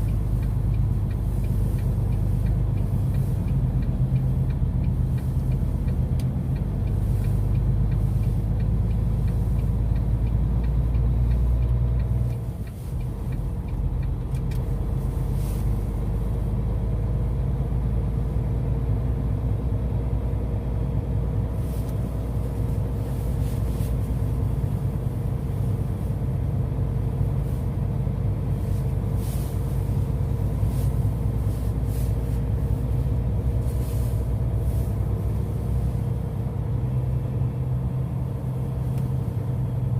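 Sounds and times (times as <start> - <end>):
heavy truck engine rumble: 0.0 - 39.9.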